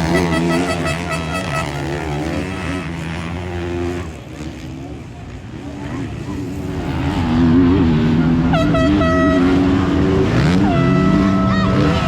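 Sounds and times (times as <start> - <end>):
motocross bike engines racing: 0.0 - 12.0.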